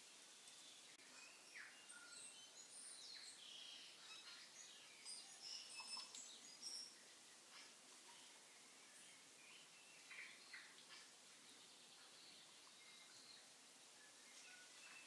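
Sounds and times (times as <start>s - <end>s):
faint bird chirps: 0.3s - 15.0s.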